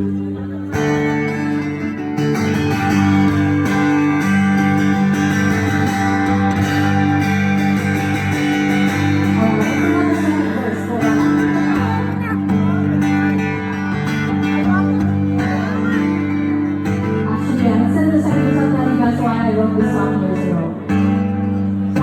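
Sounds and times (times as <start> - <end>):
strummed guitars: 0.0 - 22.0
sustained bass line: 0.0 - 22.0.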